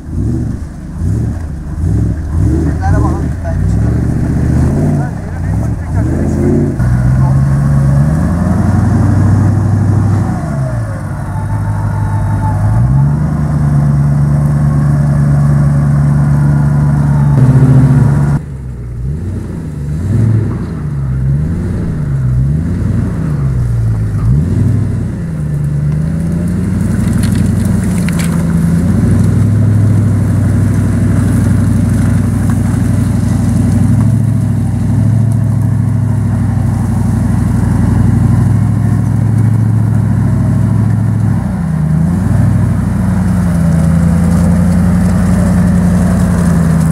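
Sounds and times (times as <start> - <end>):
car engine revving in mud: 0.0 - 46.9.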